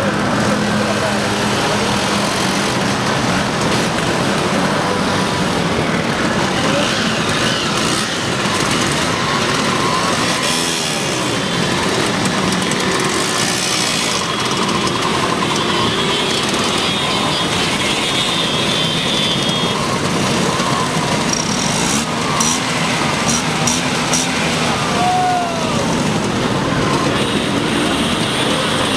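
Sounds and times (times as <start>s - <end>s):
many scooter engines revving: 0.0s - 28.9s.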